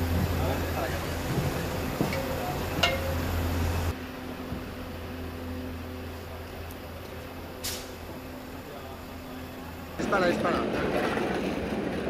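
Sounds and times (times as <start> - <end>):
low machine hum: 0.0 - 10.3.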